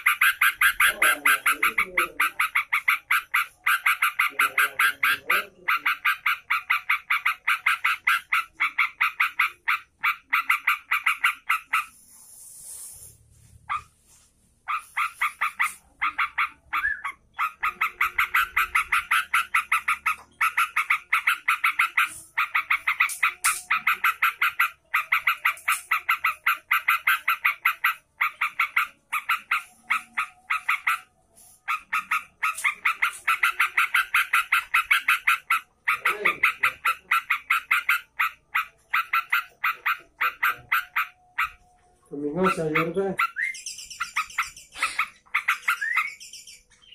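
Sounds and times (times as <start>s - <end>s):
bulbul harsh rapid calls: 0.0s - 13.9s, 14.6s - 46.9s.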